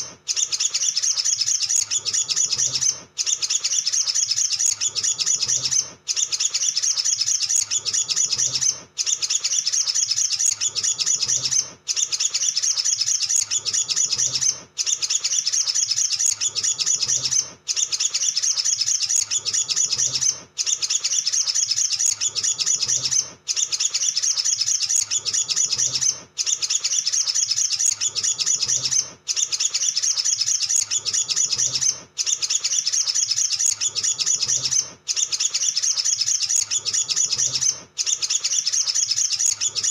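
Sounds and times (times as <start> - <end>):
bird singing high chips and trills: 0.0 - 39.9.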